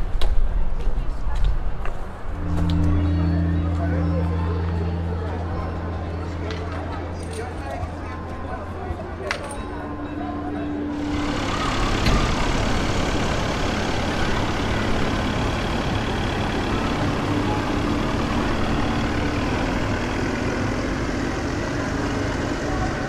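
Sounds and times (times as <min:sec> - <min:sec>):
engine-like running noise: 0:02.1 - 0:23.0.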